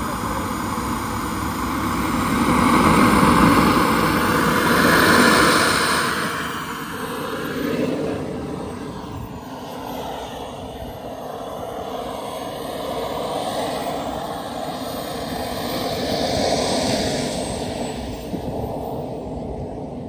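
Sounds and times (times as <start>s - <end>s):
model jet turbine rushing: 0.0s - 20.0s.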